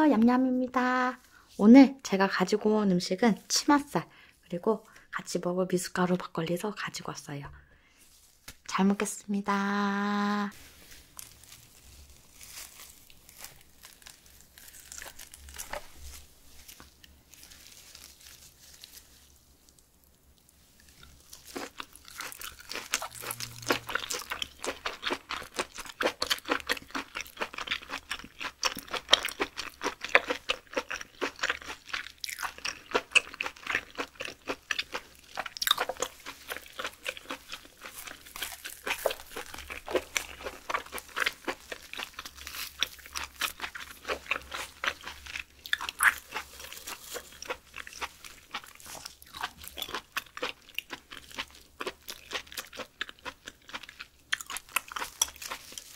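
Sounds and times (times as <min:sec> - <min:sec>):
person chewing: 0:10.8 - 0:55.9.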